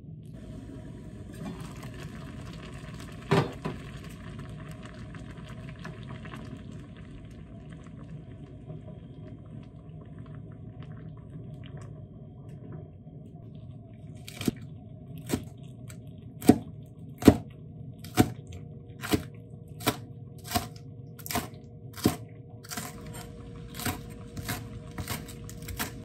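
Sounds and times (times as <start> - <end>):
soup boiling in a saucepan: 0.3 - 26.0.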